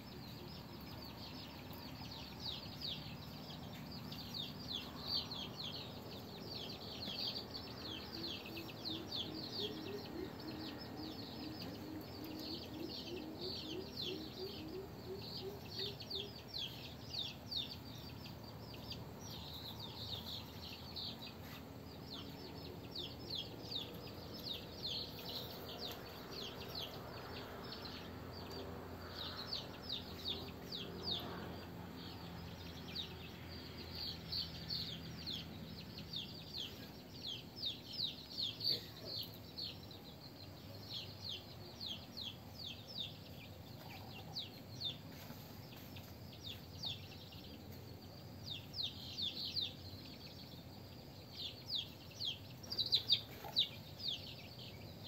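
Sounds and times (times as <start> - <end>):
chicks peeping: 0.1 - 55.0.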